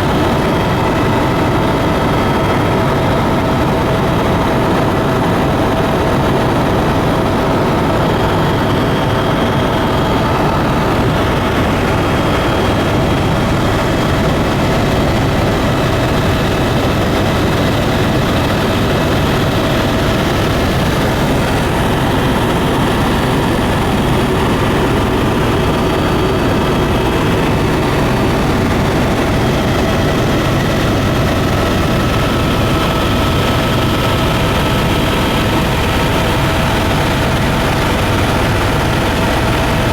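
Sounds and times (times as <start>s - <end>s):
constant cabin hum: 0.0s - 39.9s
plane engine and propeller drone: 0.0s - 39.9s.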